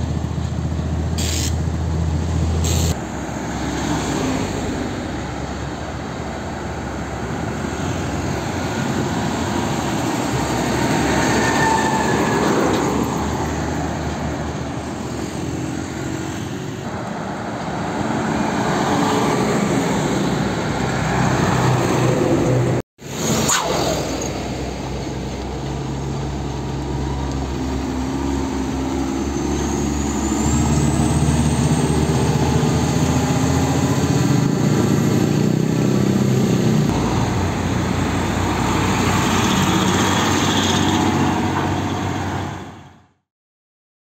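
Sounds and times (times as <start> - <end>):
diesel trucks driving past: 0.0 - 43.0
tyre and road noise: 0.0 - 43.1.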